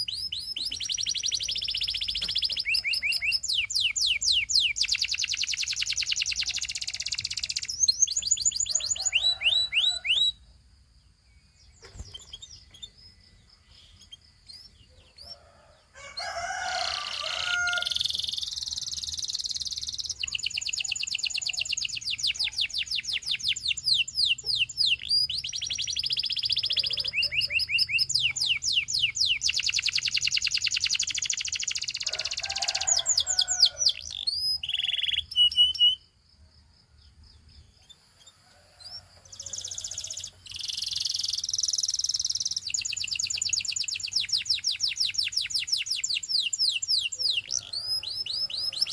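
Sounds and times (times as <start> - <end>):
canary singing trills: 0.0 - 10.4, 11.4 - 36.2, 37.4 - 48.9.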